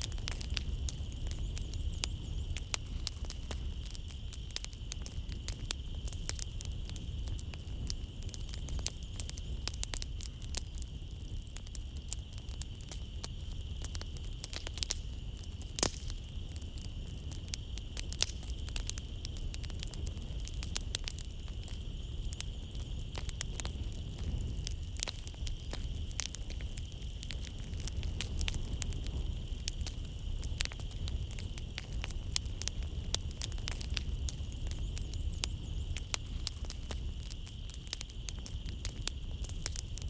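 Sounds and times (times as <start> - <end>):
night insects chirring: 0.0 - 40.0
wood fire crackling: 0.0 - 40.0.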